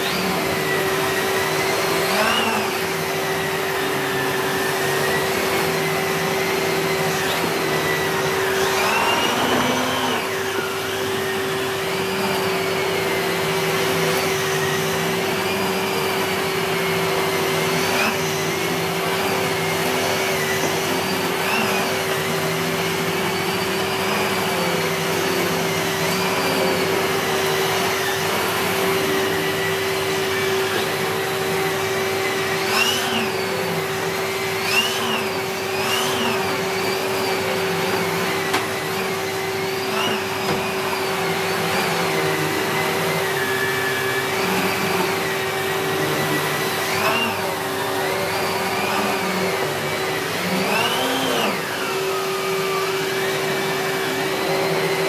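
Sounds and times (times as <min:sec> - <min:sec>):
turbo brush head whining on carpet: 0:00.0 - 0:55.0
vacuum cleaner motor whine: 0:00.0 - 0:55.0.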